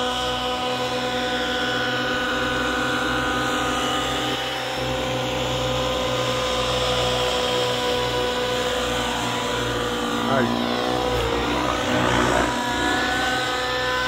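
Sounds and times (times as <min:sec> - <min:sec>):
model helicopter engine whine: 0:00.0 - 0:14.0.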